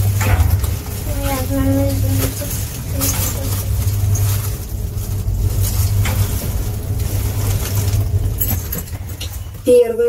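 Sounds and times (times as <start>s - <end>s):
lift humming: 0.0s - 10.0s.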